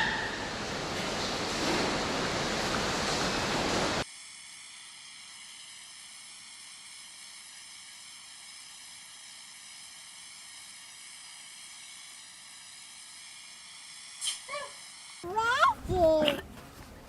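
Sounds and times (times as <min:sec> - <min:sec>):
steady high-pitched hiss: 0:00.0 - 0:15.9.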